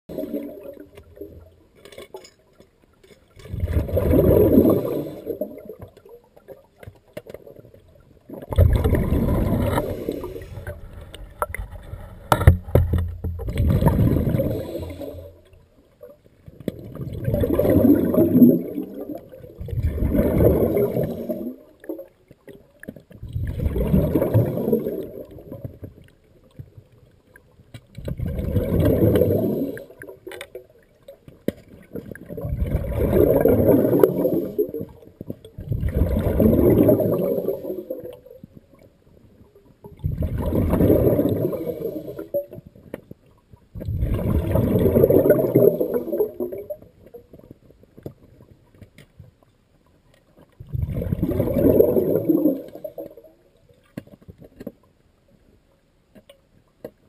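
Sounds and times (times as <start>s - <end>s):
underwater breath bubbles gurgling: 0.1s - 2.0s, 3.3s - 48.8s, 50.6s - 54.7s.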